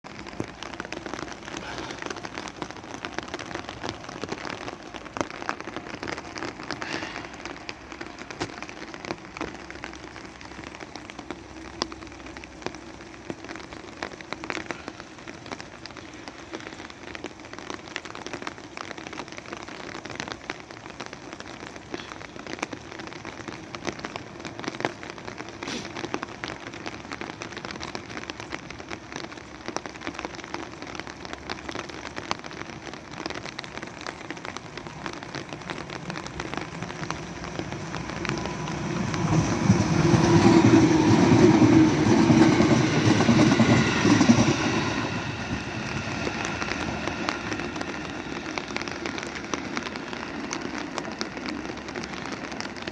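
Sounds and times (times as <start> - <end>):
raindrops ticking close by: 0.0 - 52.9
steady rain falling: 0.0 - 52.9.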